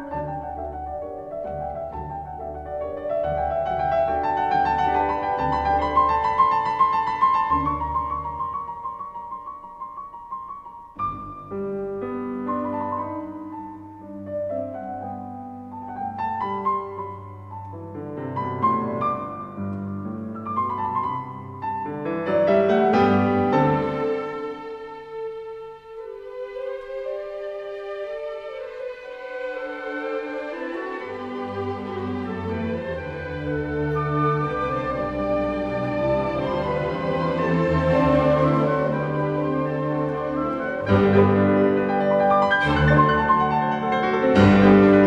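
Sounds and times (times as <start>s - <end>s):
instrumental piano music: 0.0s - 26.2s, 30.7s - 45.0s.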